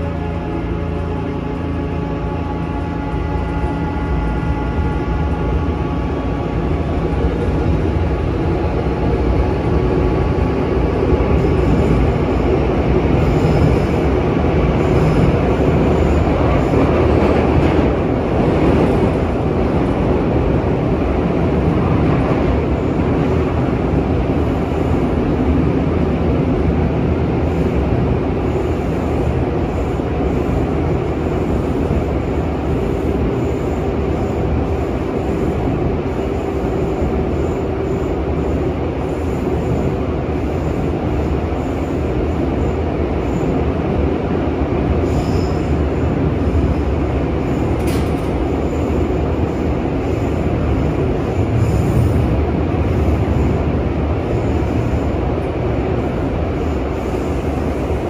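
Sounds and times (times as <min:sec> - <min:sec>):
train wheels rumbling in tunnel: 0:00.0 - 0:58.0.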